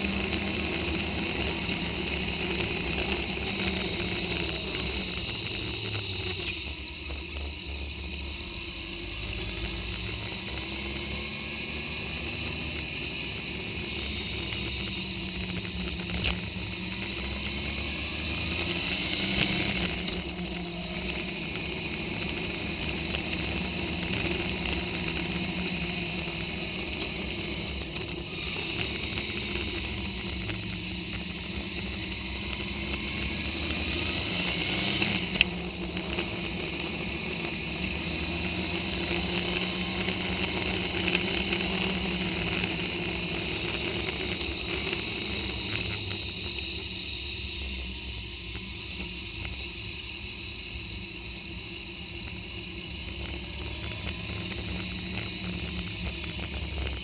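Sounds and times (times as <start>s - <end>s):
motorcycle engine revving: 0.0s - 57.0s
wind hiss: 0.0s - 57.0s.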